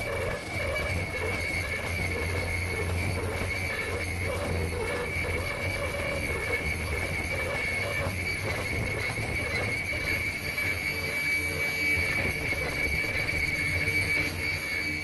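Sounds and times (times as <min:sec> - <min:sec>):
fast mechanical clatter: 0:00.0 - 0:15.0
machine high whine: 0:00.0 - 0:15.0.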